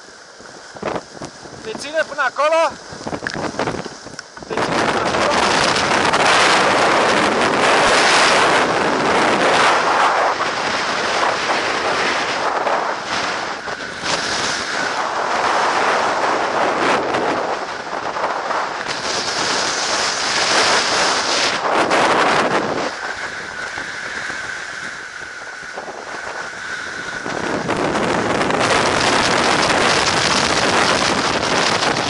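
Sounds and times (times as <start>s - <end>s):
strong wind buffeting microphone: 0.0s - 32.0s.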